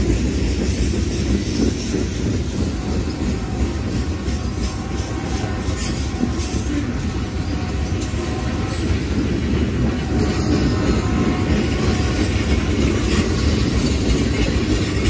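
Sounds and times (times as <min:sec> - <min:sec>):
train cars rolling on rails: 0:00.0 - 0:15.0.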